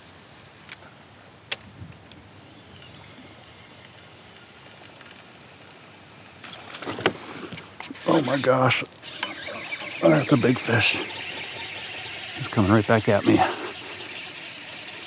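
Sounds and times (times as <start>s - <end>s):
rippling water: 2.6s - 15.0s.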